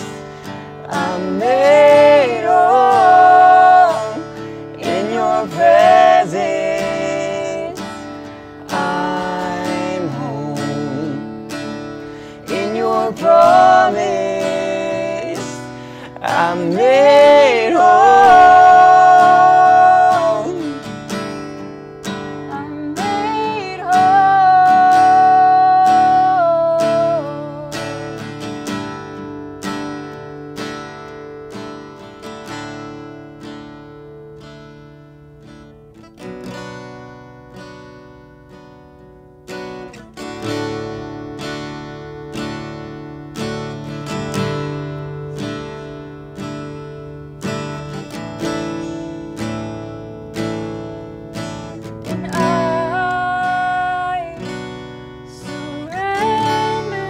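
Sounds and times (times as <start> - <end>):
acoustic guitar strumming: 0.0 - 57.0.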